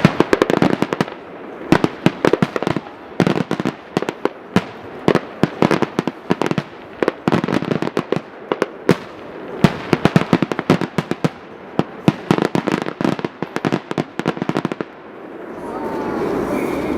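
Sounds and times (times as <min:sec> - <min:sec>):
fireworks bangs and cracks: 0:00.0 - 0:15.1.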